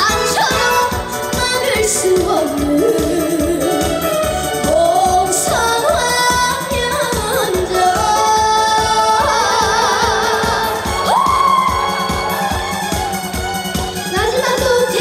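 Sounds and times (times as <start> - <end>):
woman singing with vibrato: 0.0 - 12.8, 14.1 - 15.0
musical accompaniment with steady beat: 0.0 - 15.0.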